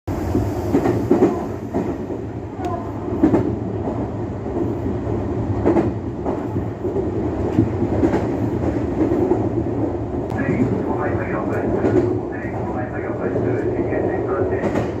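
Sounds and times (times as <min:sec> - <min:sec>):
train wheels rumbling on rail: 0:00.1 - 0:15.0
rail joint clacks: 0:00.3 - 0:15.0.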